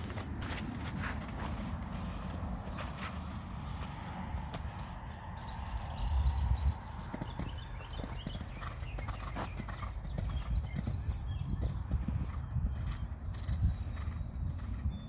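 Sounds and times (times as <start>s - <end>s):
hoofbeats on sand: 0.0s - 15.0s.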